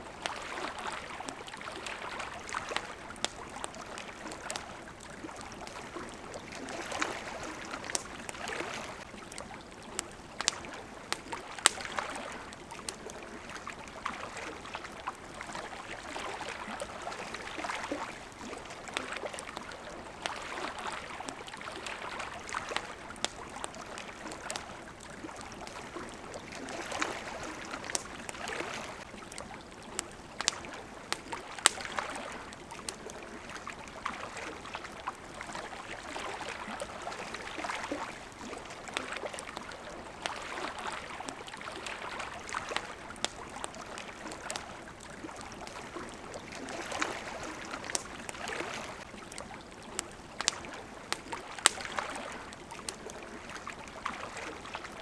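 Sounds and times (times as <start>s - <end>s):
campfire crackling: 0.0s - 55.0s
small waves lapping: 0.0s - 55.0s.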